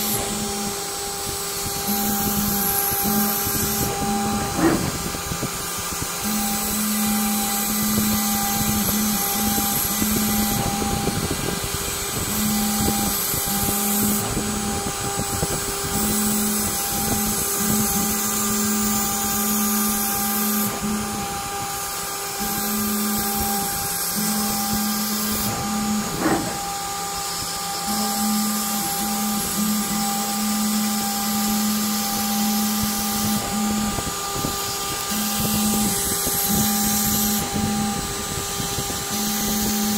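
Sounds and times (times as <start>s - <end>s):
low motor hum: 0.0s - 39.9s
router spindle turning: 0.0s - 39.9s.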